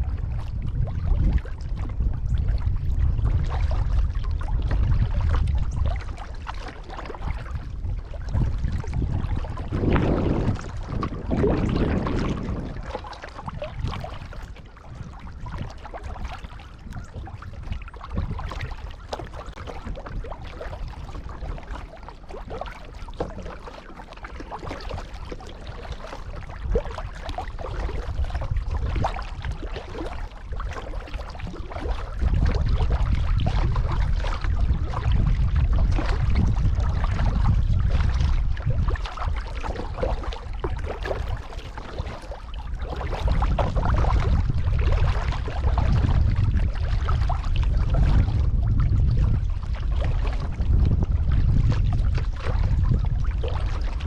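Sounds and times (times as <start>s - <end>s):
kayak paddle strokes in water: 0.0s - 54.0s
wind rumble on microphone: 0.0s - 54.0s.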